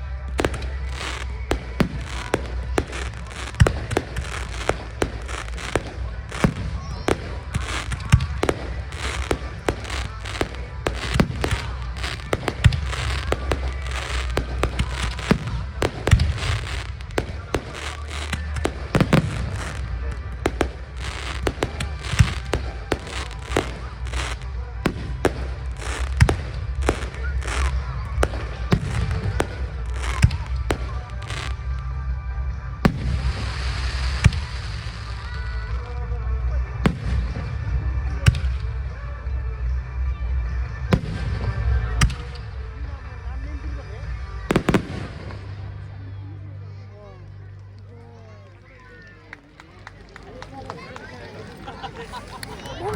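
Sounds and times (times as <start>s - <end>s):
fireworks bangs and crackles: 0.0s - 46.7s, 49.4s - 52.9s
steady low rumble: 0.0s - 48.0s.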